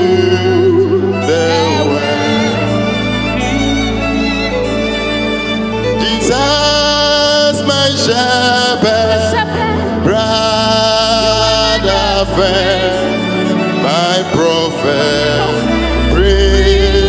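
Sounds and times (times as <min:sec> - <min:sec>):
man singing a hymn: 0:00.0 - 0:02.8, 0:05.9 - 0:17.0
sustained instrumental chords: 0:00.0 - 0:17.0.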